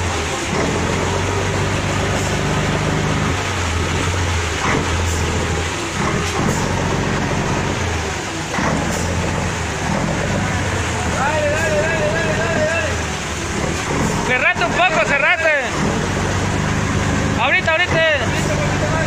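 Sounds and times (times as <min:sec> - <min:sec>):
bus engine running under load: 0:00.0 - 0:19.0.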